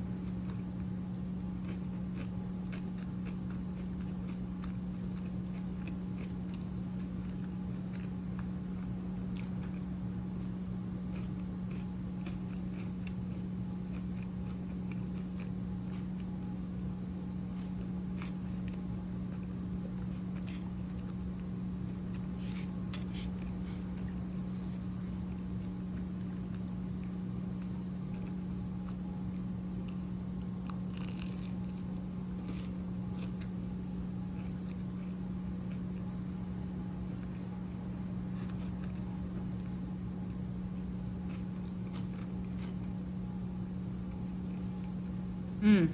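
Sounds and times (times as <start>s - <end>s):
steady low hum: 0.0s - 45.9s
chewing and biting food: 0.1s - 45.2s.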